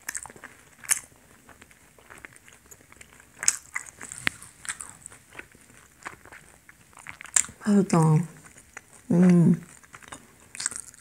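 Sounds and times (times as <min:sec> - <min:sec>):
person chewing donut: 0:00.0 - 0:11.0.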